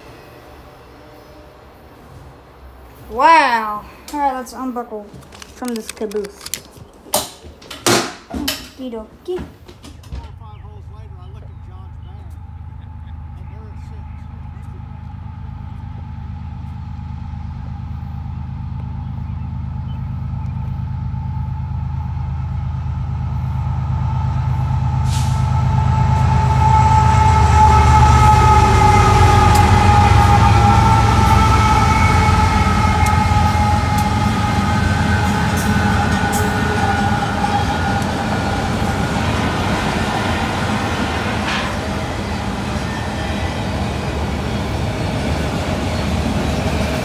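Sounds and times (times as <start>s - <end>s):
diesel locomotive engine rumble: 0.0s - 47.0s
rattle of train cars: 0.0s - 47.0s.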